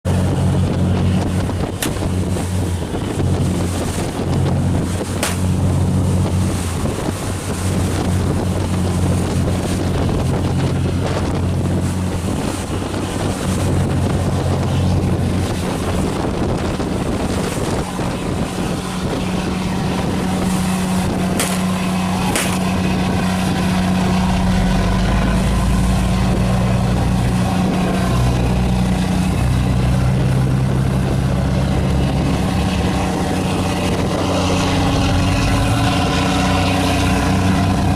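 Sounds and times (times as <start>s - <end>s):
boat engine running: 0.0s - 37.9s
rushing water: 0.0s - 37.9s
wind buffeting microphone: 0.1s - 37.9s.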